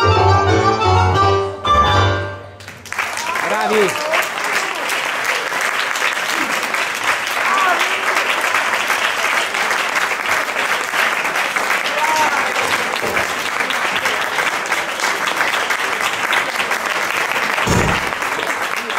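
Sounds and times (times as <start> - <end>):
audience applauding: 2.6 - 18.9.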